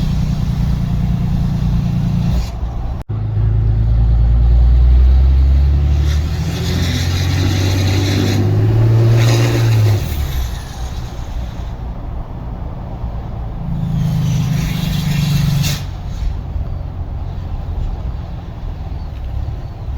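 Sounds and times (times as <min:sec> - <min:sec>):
diesel engine exhaust: 0:00.0 - 0:19.9.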